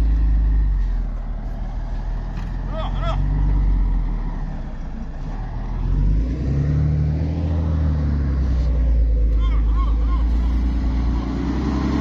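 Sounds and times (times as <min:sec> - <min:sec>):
diesel engine under load: 0:00.0 - 0:12.0.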